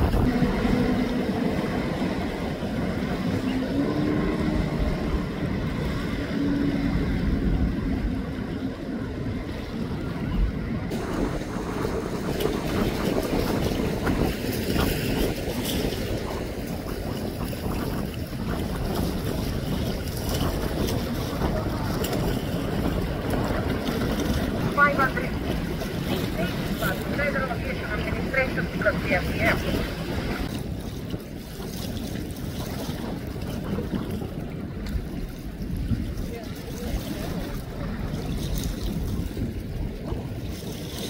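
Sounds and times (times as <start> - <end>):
boat rumble: 0.0 - 41.0
water rushing: 0.0 - 41.0
wind buffeting microphone: 0.0 - 41.0.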